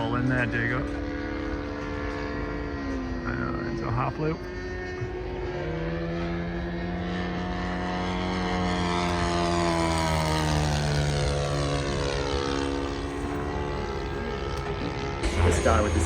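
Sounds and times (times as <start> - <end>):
model plane propeller engine: 0.0 - 16.0.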